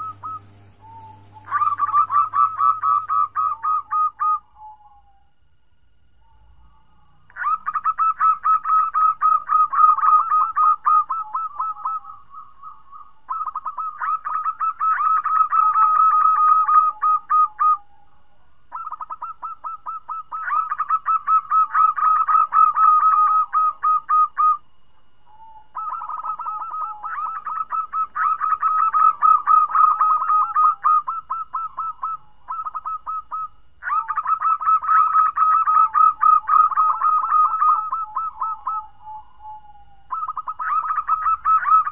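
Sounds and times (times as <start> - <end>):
dove calling rapid notes: 0.0 - 5.2, 6.2 - 18.1, 18.7 - 24.6, 25.3 - 41.9.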